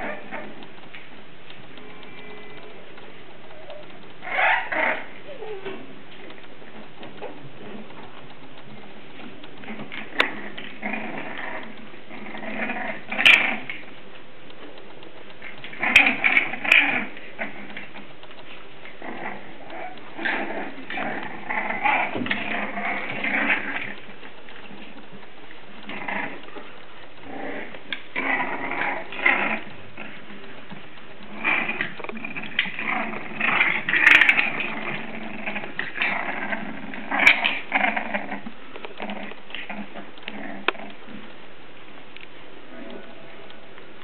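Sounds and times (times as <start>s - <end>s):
puppies snuffling and grunting: 0.0s - 44.0s
sharp clicks: 0.0s - 44.0s.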